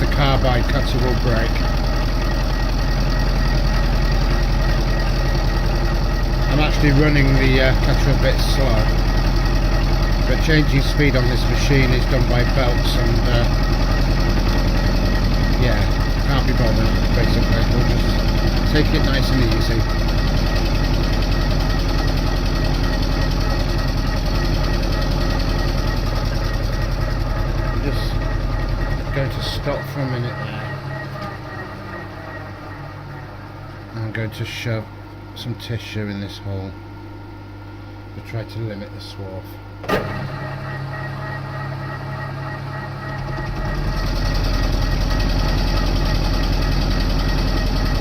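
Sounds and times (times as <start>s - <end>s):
milling machine running: 0.0s - 48.0s.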